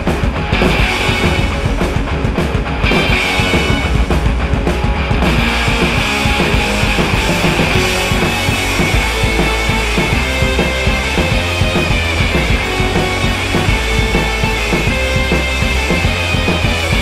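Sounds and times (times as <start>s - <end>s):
drums: 0.0s - 17.0s
electric guitar: 0.0s - 17.0s
rock music: 0.0s - 17.0s.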